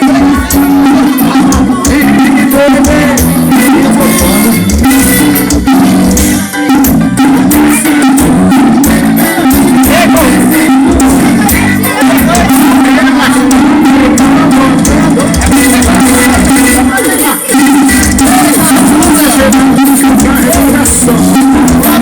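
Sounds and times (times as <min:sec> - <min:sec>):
loud band music over speakers: 0:00.0 - 0:22.0.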